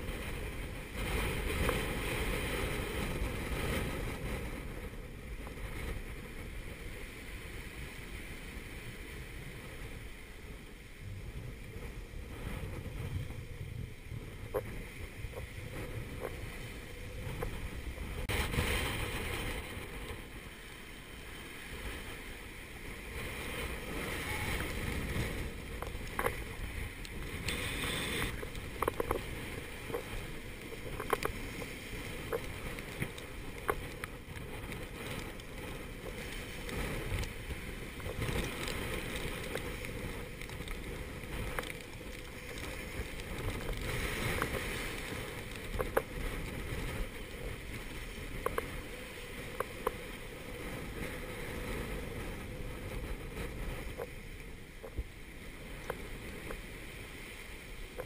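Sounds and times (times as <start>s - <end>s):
waves rushing along hull: 0.0s - 58.0s
wind buffeting microphone: 0.0s - 58.0s.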